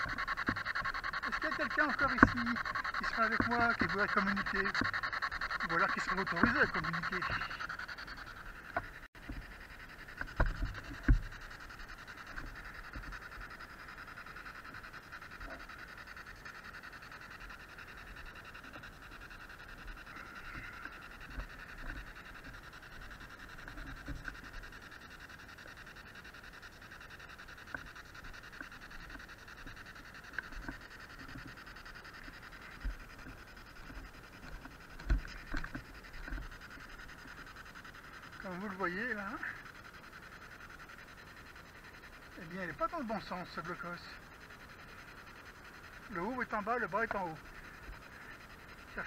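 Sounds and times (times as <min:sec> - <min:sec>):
radio static hiss: 0:00.0 - 0:49.0.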